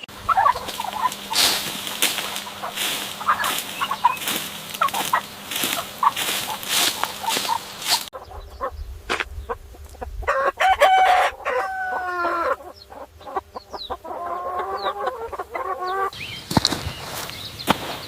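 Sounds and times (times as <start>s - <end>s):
chickens clucking: 0.0s - 18.0s
chickens drawn-out calls: 0.0s - 18.0s.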